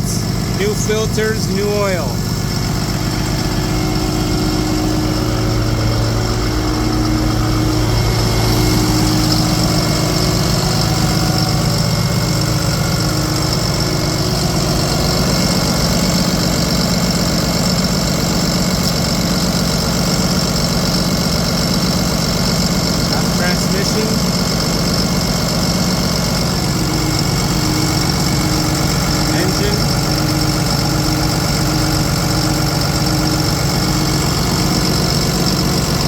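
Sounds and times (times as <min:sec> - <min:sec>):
diesel truck engine idling: 0:00.0 - 0:36.0.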